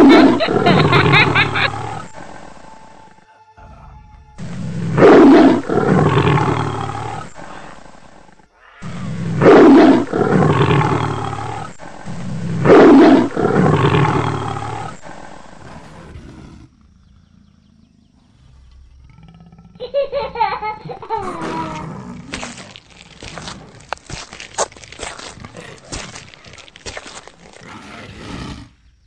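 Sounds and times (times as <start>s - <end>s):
big cat roaring: 4.4s - 20.0s, 20.9s - 28.8s.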